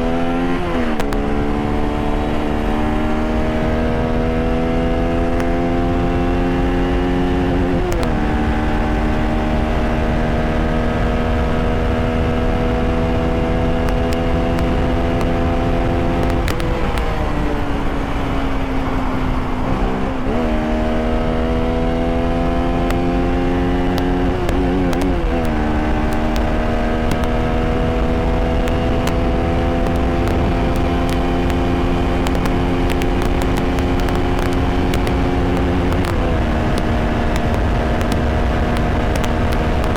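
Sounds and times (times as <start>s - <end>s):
motorcycle engine under load: 4.1s - 20.3s, 22.0s - 39.9s.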